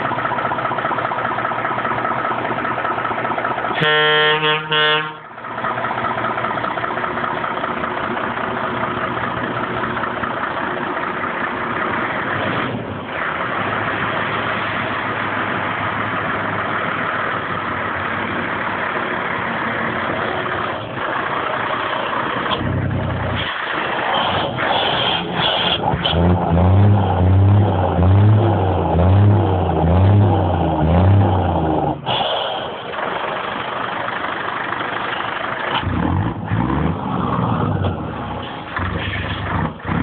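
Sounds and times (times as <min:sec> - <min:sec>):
diesel truck engine droning: 0:00.0 - 0:40.0.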